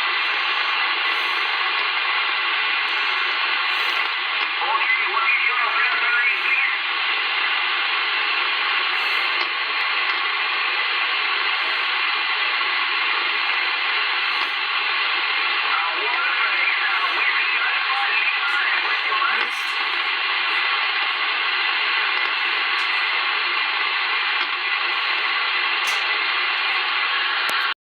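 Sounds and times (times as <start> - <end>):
garbled distant radio voices: 0.0 - 27.8
radio static hiss: 0.0 - 27.8.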